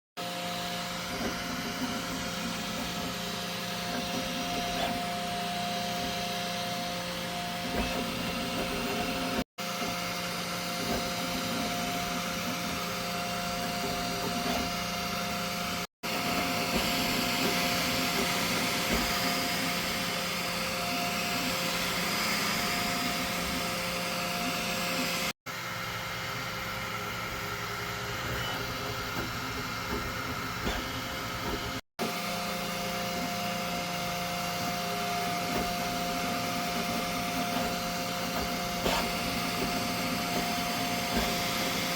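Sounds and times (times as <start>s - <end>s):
motor hum and whine: 0.2s - 41.9s
printer fan whirring: 0.2s - 41.9s.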